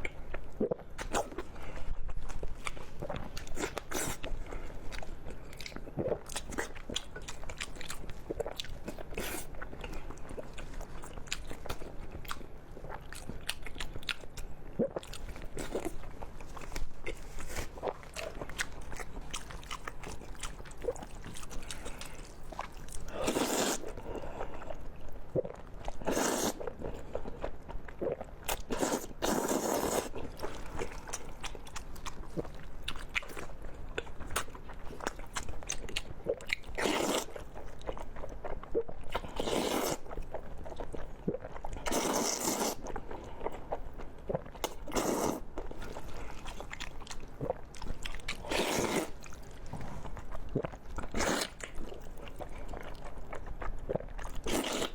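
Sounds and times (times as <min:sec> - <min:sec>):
soft chewing: 0:00.0 - 0:54.9.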